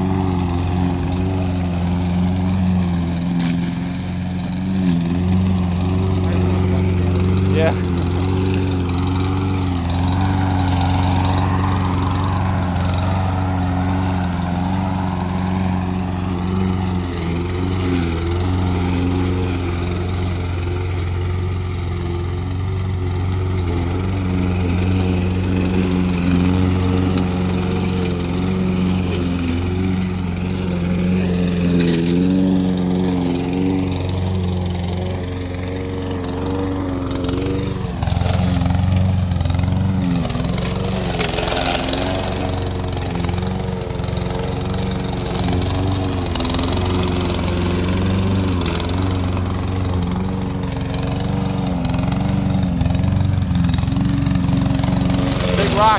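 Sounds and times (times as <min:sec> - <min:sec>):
lawn mower engine running: 0:00.0 - 0:55.9.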